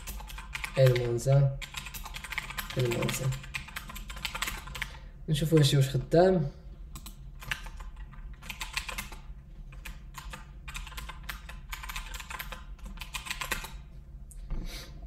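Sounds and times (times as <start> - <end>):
typing on computer keyboard: 0.0 - 6.0, 6.9 - 13.8.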